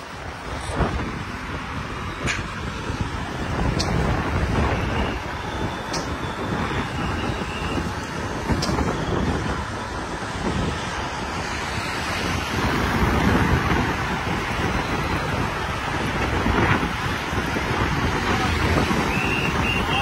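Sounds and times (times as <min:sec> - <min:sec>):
passing cars: 0:00.0 - 0:20.0
wind on microphone: 0:00.0 - 0:20.0.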